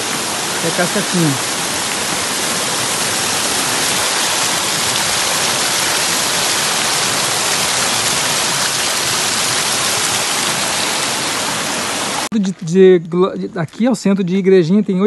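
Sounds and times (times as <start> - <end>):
creek water rushing over cascade: 0.0 - 14.8.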